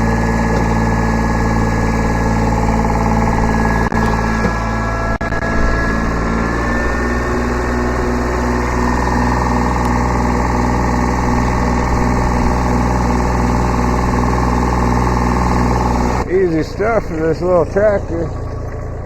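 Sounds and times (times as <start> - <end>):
high steady whine: 0.0 - 19.0
tractor diesel engine running: 0.0 - 19.0.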